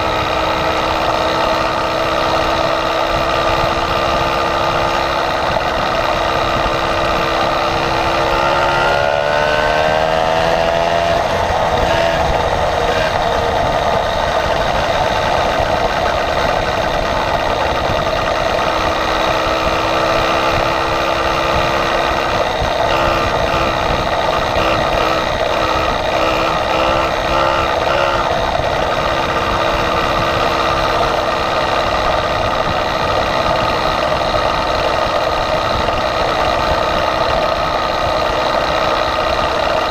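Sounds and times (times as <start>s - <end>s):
small motor engine running: 0.0s - 39.9s
wind rushing over microphone: 0.0s - 39.9s.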